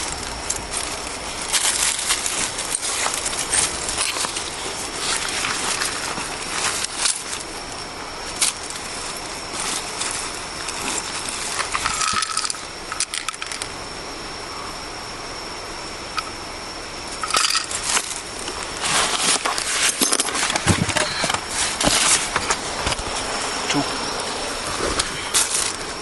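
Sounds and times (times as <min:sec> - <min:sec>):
rustling and clattering objects: 0:00.0 - 0:13.7, 0:17.1 - 0:23.5, 0:24.6 - 0:26.0
high-pitched whine: 0:00.0 - 0:26.0.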